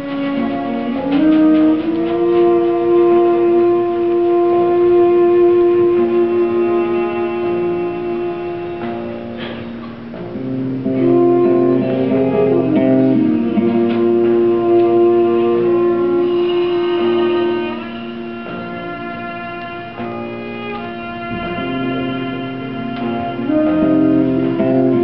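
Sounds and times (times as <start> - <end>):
acoustic guitar accompaniment: 0.0 - 25.0
violin melody: 0.0 - 25.0.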